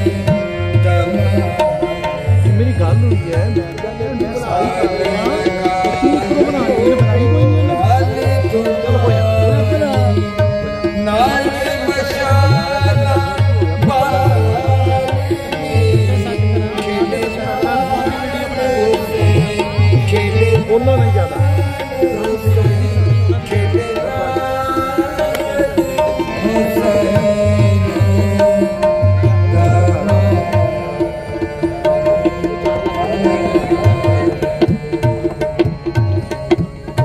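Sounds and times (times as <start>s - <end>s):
harmonium: 0.0s - 37.0s
man singing: 0.0s - 37.0s
tabla with deep bass strokes: 0.0s - 37.0s.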